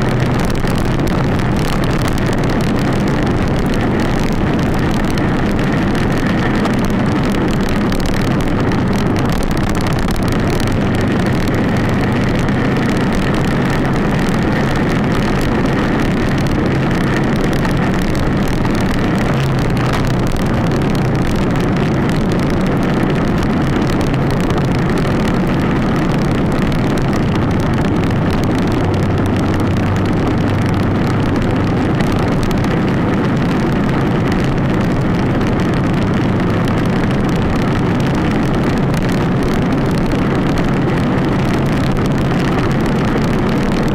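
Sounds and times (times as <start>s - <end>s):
motorcycle engine running: 0.0s - 43.9s
wind noise on camera: 0.0s - 43.9s.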